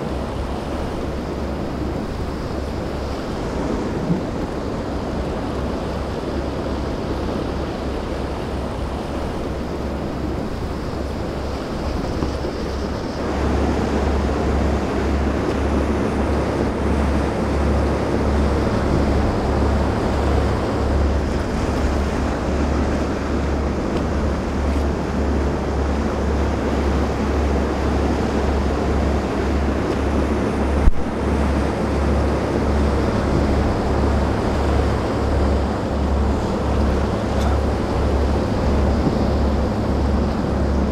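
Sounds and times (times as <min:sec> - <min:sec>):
waves and surf: 0:00.0 - 0:40.9
wind buffeting microphone: 0:00.0 - 0:40.9.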